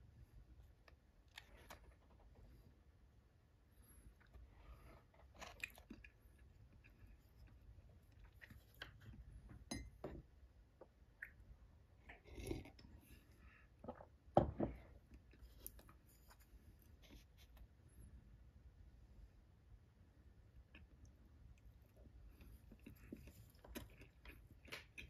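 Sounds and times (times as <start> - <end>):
soft chewing: 0.1 - 10.0, 10.8 - 18.2, 20.5 - 25.0.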